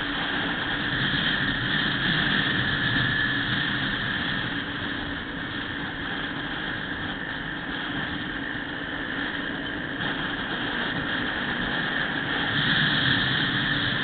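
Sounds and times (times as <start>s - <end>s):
wind rush: 0.0s - 14.0s.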